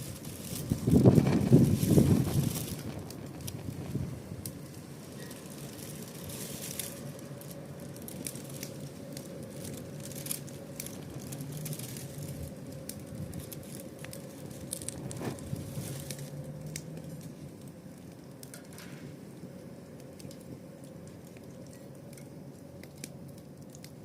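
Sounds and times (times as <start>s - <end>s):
faint steady hum: 0.0s - 24.0s
wood fire crackling and popping: 0.0s - 24.0s.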